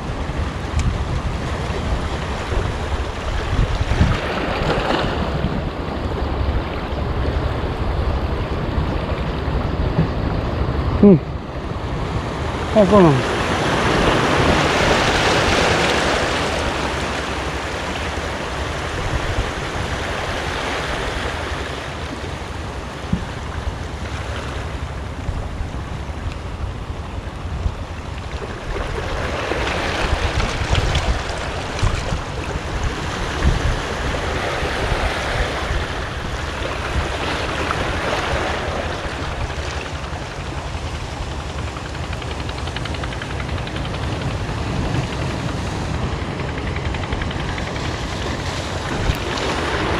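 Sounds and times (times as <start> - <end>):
waves washing against rocks: 0.0 - 10.9, 11.8 - 49.9
wind buffeting the microphone: 0.0 - 49.9.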